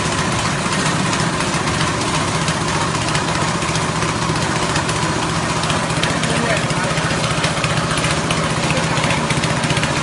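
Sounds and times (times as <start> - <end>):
grinding machine rushing noise: 0.0 - 10.0
petrol engine running: 0.0 - 10.0.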